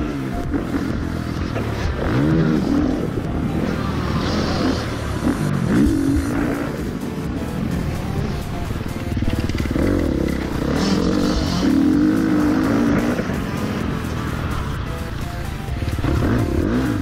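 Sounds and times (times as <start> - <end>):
background music: 0.0 - 17.0
dirt bike engine revving: 0.0 - 17.0.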